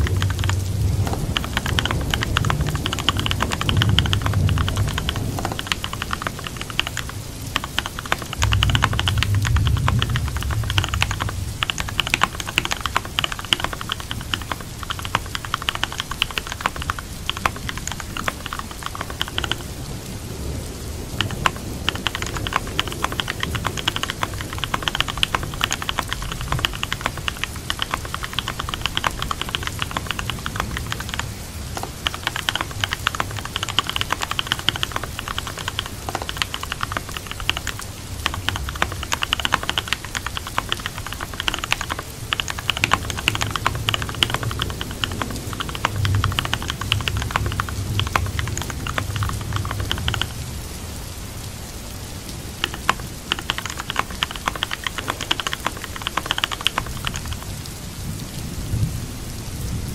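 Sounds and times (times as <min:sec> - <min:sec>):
typing on computer keyboard: 0:00.0 - 0:19.9, 0:20.9 - 0:50.4, 0:52.3 - 0:58.3
steady rain: 0:00.0 - 0:59.9.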